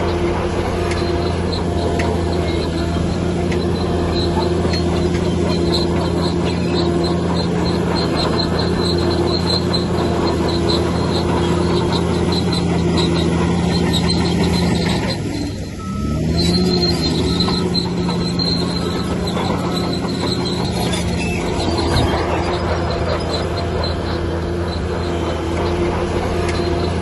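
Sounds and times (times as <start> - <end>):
bulldozer diesel engine running: 0.0 - 27.0
steel tracks squeaking: 0.0 - 27.0.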